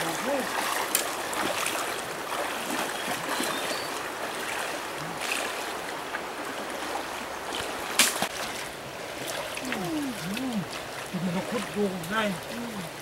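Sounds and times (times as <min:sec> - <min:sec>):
sharp splash: 0:00.0 - 0:05.9, 0:06.5 - 0:12.7
feet wading through water: 0:00.0 - 0:13.0
stream running over stones: 0:00.0 - 0:13.0.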